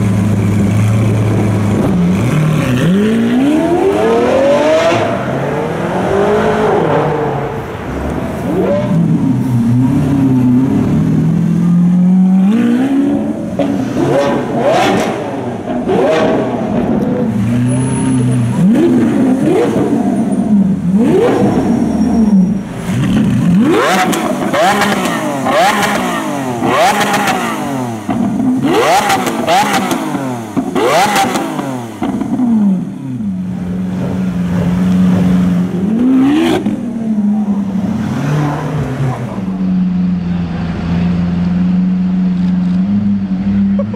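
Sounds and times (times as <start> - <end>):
sports car engine idling and revving: 0.0 - 43.9.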